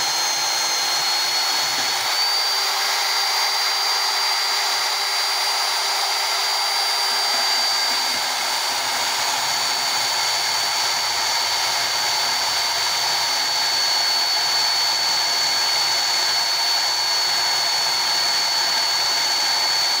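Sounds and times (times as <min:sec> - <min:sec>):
band saw cutting metal: 0:00.0 - 0:20.0.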